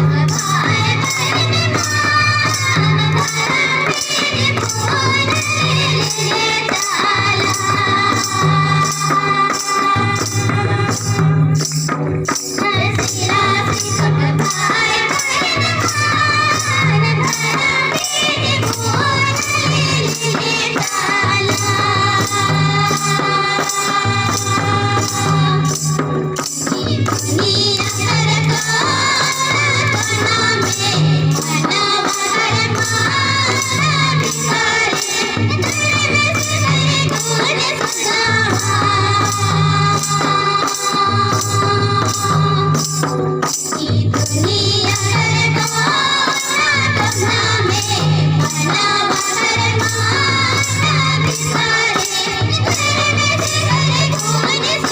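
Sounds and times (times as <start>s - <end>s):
high jingling percussion: 0.0s - 54.9s
woman singing: 0.0s - 54.9s.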